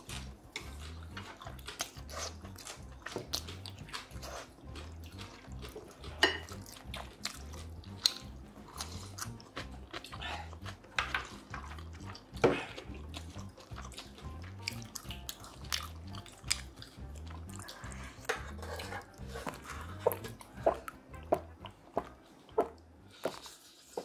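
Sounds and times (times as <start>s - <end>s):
wet chewing and mouth clicks: 0.0s - 23.7s
quiet music with low beat: 0.0s - 24.0s.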